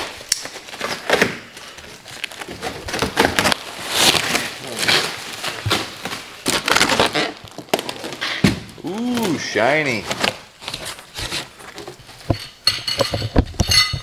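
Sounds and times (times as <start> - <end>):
plastic and cardboard crinkling: 0.0 - 13.7.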